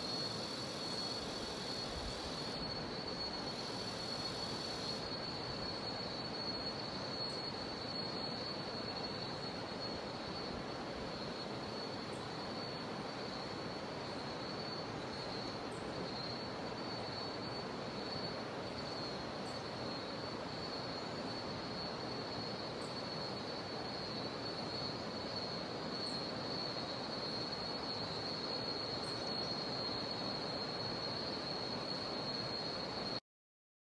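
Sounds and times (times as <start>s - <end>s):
cicadas droning: 0.0s - 33.2s.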